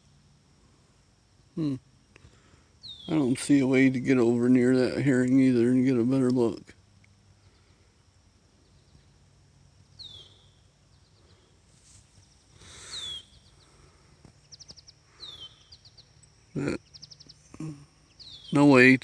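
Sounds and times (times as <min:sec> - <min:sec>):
faint low hum: 0:00.0 - 0:19.0
songbird singing: 0:00.0 - 0:19.0.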